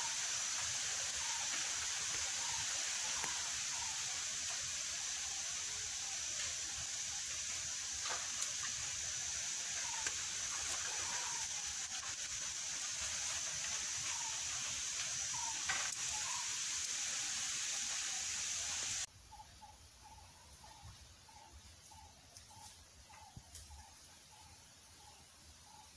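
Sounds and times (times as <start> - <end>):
forest ambience hiss: 0.0 - 25.9
quick evenly spaced chirps: 0.0 - 25.9.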